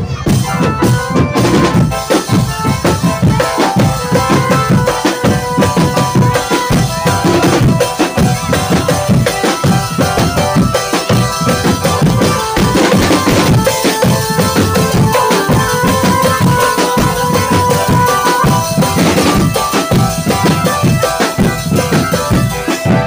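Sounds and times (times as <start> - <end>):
fast drumming: 0.0 - 23.0
held melody line: 0.0 - 23.0.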